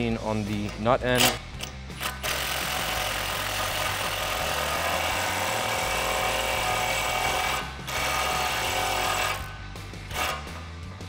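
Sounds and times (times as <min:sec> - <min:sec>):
impact wrench hammering: 0:00.5 - 0:10.8.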